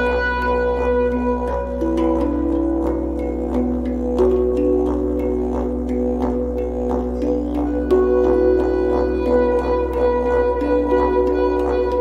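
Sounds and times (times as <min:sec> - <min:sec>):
didgeridoo drone: 0:00.0 - 0:12.0
reed instrument melody: 0:00.0 - 0:12.0.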